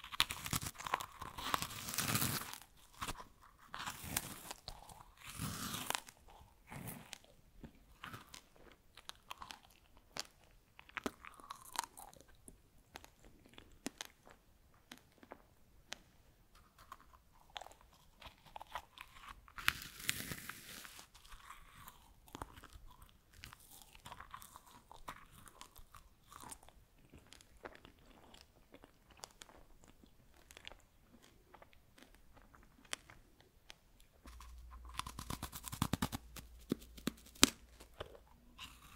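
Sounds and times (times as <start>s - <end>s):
crunchy chewing: 0.0s - 16.0s, 16.6s - 38.9s.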